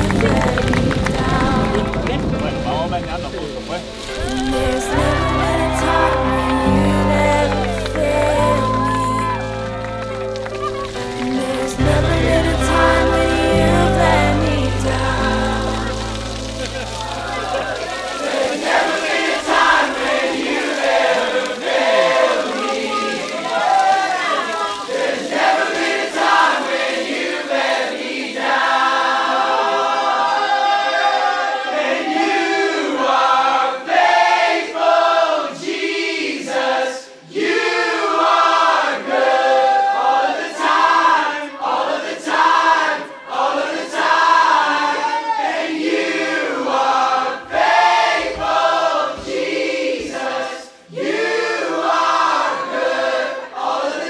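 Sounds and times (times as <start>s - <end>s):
group singing unaccompanied: 3.9s - 9.5s, 11.0s - 54.0s.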